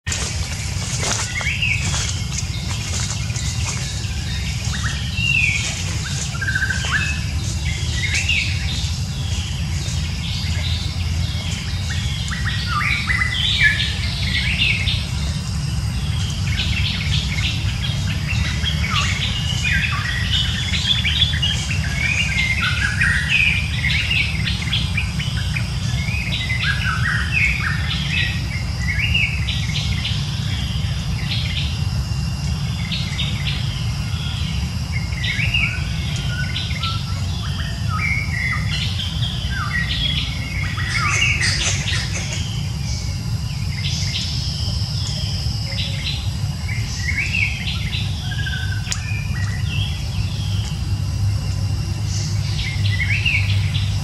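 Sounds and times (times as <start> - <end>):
birds chirping and calling: 0.1 - 54.0
steady low rumble: 0.1 - 54.0.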